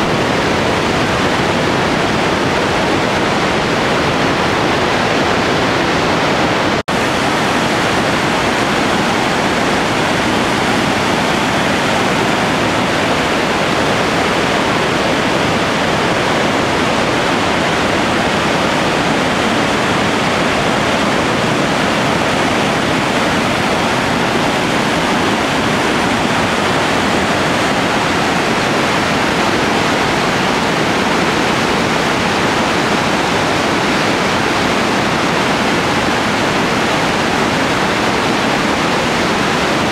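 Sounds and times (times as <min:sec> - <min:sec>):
roar of whitewater rapids: 0:00.0 - 0:39.9.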